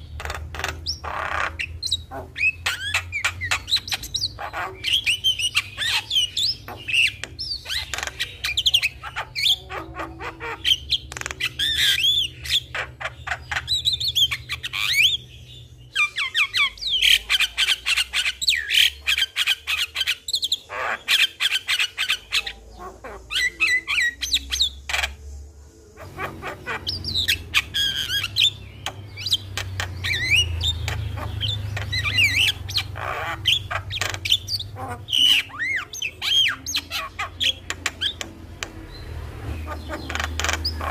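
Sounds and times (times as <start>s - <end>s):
mynas calling: 0.0s - 40.9s.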